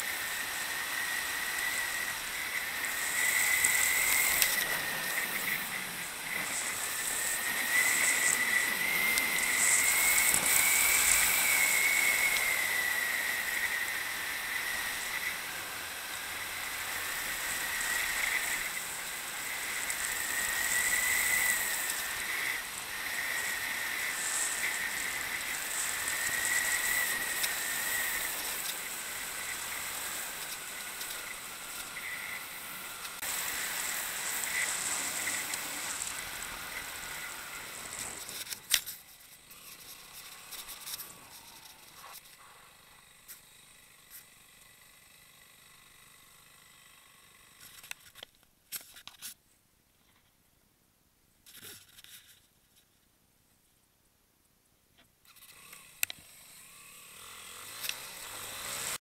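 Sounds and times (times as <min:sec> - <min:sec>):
wind and road noise: 0:00.0 - 0:46.2, 0:55.4 - 0:59.0
faint wavering whine: 0:00.0 - 0:48.1.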